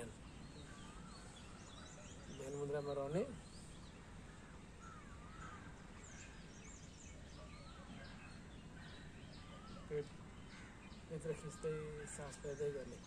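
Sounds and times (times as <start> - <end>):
birds whistling and chirping: 0.0 - 13.0
steady background hiss: 0.0 - 13.0.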